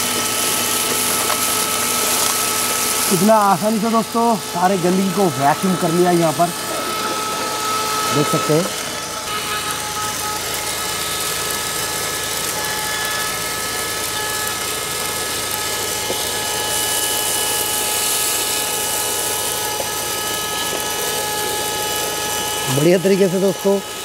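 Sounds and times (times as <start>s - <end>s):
car vacuum cleaner running: 0.0s - 24.0s.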